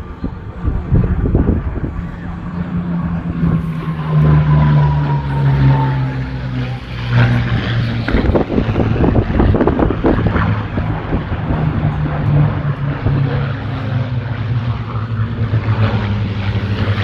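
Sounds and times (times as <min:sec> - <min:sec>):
propeller aircraft flying past: 0:00.0 - 0:17.0
wind buffeting microphone: 0:00.0 - 0:17.0.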